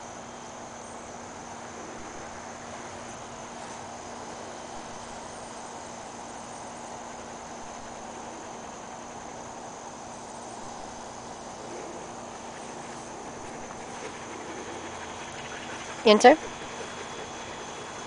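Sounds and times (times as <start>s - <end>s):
crickets chirring: 0.0s - 18.0s
outdoor hiss: 0.0s - 18.0s.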